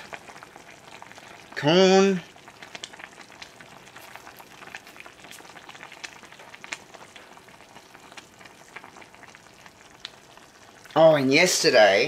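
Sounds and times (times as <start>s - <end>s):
soup bubbling in a pot: 0.0s - 12.0s.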